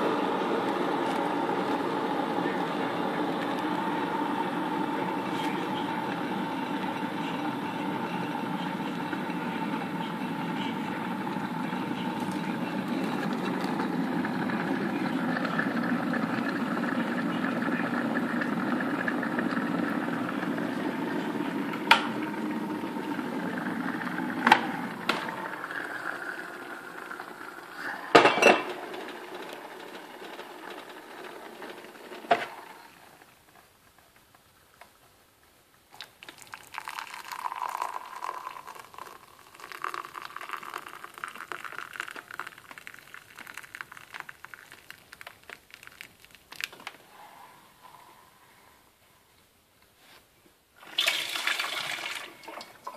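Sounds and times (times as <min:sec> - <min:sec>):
hot water pouring into mug: 0:00.0 - 0:33.3, 0:36.0 - 0:47.0, 0:50.8 - 0:52.9
electric kettle heating water: 0:00.0 - 0:35.0, 0:36.0 - 0:47.2, 0:50.8 - 0:52.9.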